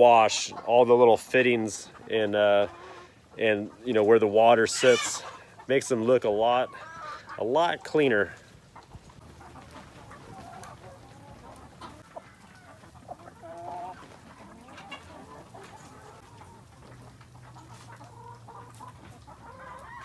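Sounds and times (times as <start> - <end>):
hens clucking: 0.0 - 20.0.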